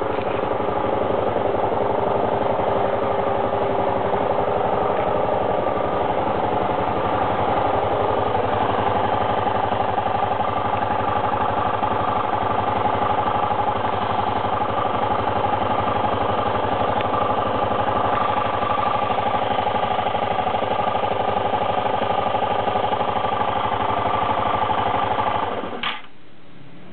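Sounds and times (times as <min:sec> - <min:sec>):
scooter engine idling: 0:00.0 - 0:25.9.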